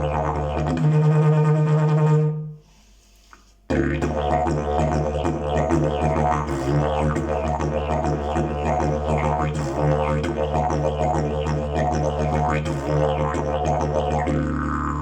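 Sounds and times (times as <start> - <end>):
didgeridoo droning: 0.0 - 2.4, 3.7 - 15.0.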